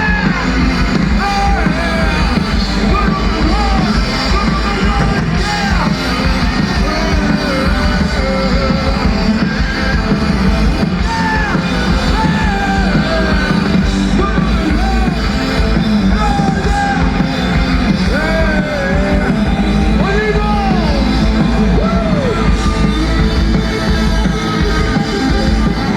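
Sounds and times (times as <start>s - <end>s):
person singing: 0.0s - 25.9s
rock band playing live: 0.0s - 25.9s.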